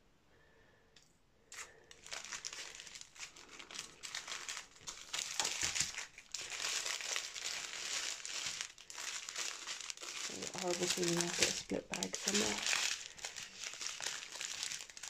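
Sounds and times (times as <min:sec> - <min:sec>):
plastic bags crinkling: 0:01.6 - 0:15.0.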